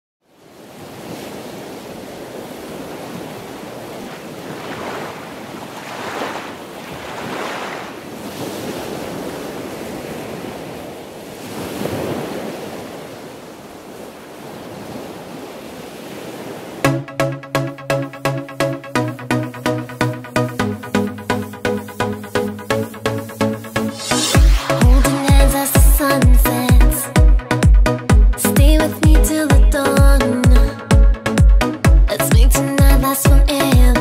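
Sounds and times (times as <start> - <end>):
waves washing ashore: 0.3 - 27.7.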